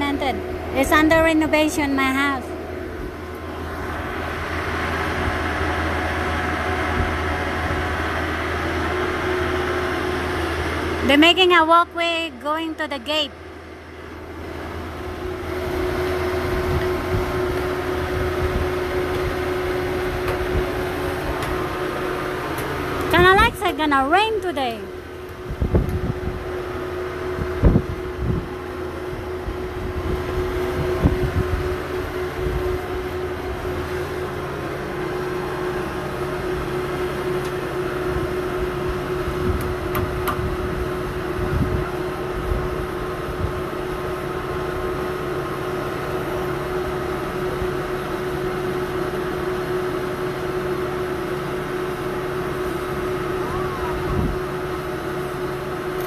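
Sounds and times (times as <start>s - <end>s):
loader engine droning: 0.0s - 56.0s.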